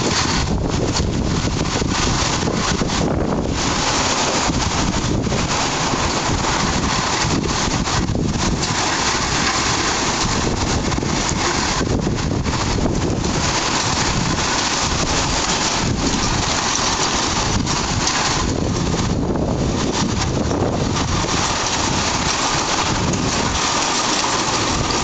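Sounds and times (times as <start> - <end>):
gusting wind buffeting microphone: 0.0 - 25.0
heavy wind-driven rain: 0.0 - 25.0.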